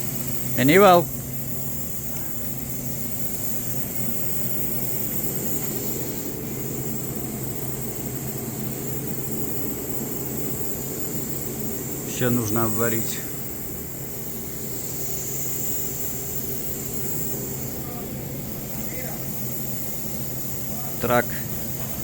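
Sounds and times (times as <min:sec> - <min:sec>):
machinery hum and hiss: 0:00.0 - 0:22.0.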